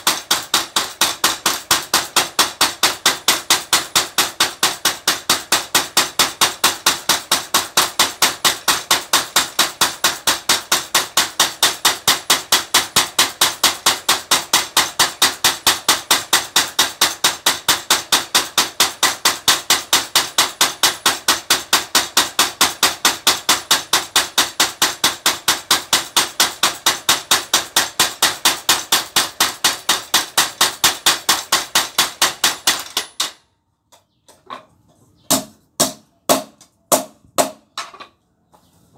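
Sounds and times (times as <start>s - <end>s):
power hammer striking hot iron: 0.0s - 33.4s.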